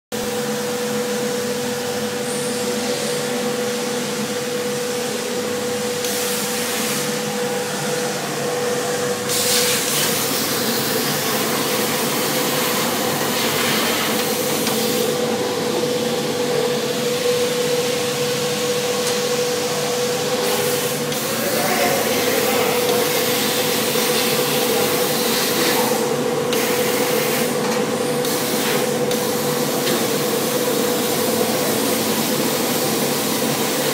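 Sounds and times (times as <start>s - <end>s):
machine hum: 0.2s - 33.9s.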